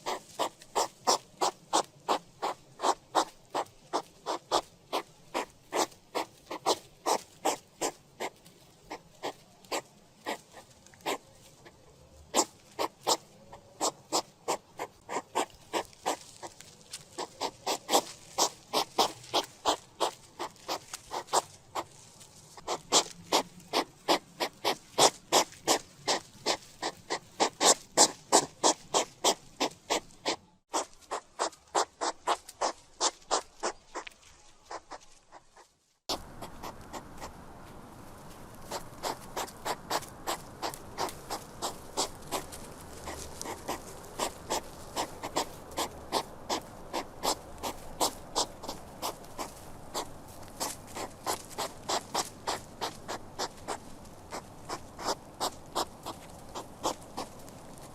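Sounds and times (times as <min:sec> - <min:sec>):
hedgehog making sharp sounds: 0:00.0 - 0:37.3, 0:38.6 - 0:57.9
steady background hiss: 0:00.0 - 0:57.9.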